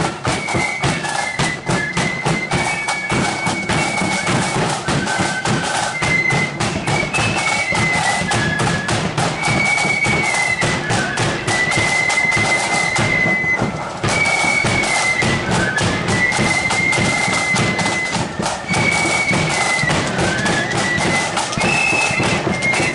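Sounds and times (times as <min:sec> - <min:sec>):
high flutes playing melody: 0:00.0 - 0:22.9
snare and bass drumming: 0:00.0 - 0:22.9.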